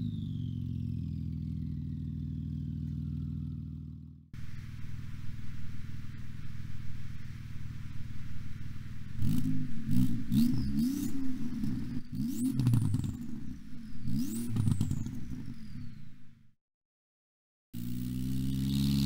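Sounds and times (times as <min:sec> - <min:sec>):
car engine idling: 0:00.3 - 0:16.3.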